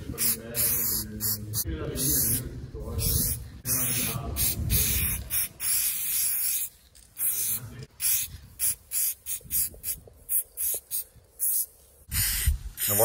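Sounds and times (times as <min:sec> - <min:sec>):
spray paint can hissing: 0:00.0 - 0:02.4, 0:03.0 - 0:13.0.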